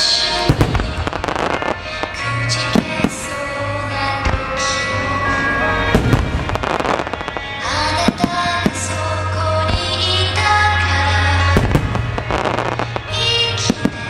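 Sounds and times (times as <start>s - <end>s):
music for firework display: 0.0s - 14.0s.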